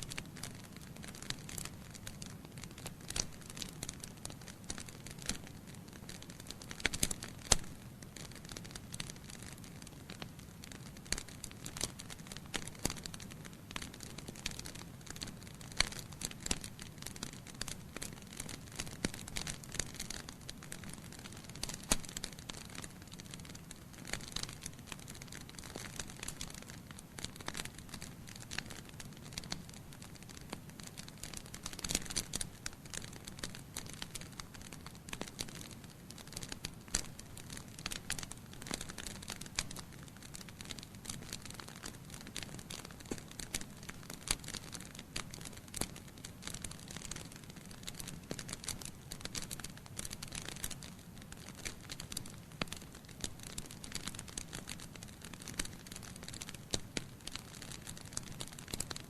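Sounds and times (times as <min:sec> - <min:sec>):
logs crackling and popping: 0:00.0 - 0:59.0.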